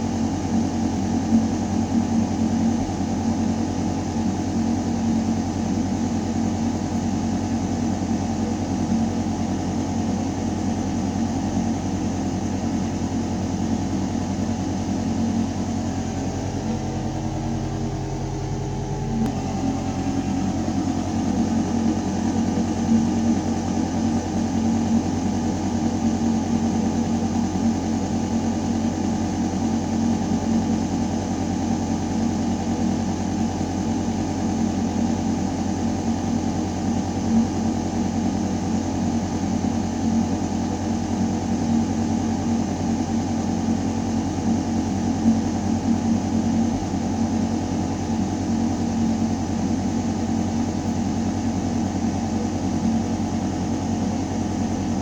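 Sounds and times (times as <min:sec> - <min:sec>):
ventilation fans humming: 0:00.0 - 0:55.0.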